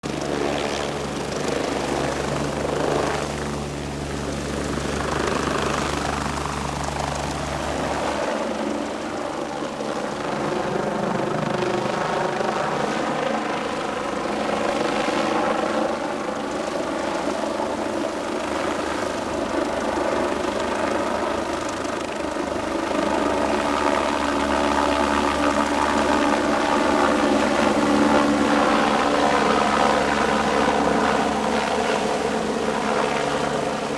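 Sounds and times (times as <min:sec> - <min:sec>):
helicopter rotor drone: 0:00.0 - 0:33.9.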